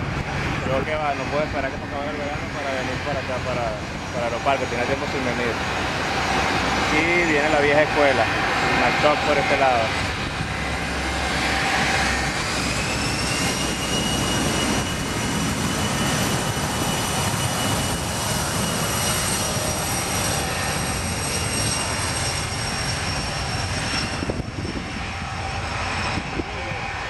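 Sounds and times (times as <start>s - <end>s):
jet engine roar and whine: 0.0s - 27.0s.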